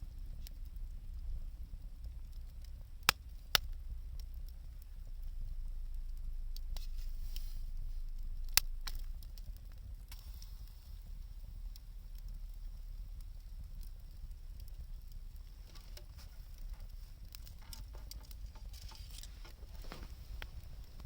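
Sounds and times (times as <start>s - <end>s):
low steady rumble: 0.0s - 21.0s
wood fire crackling: 0.0s - 21.0s
sharp pops of fire: 2.0s - 21.0s.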